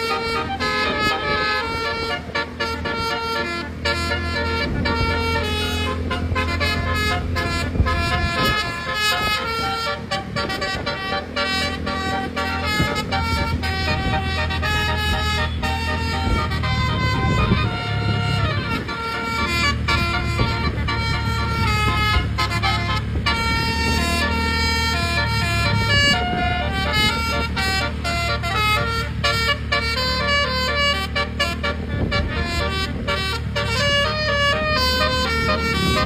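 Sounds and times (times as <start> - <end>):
low engine hum: 0.0 - 36.0
multi-tone musical horn melody: 0.0 - 36.0.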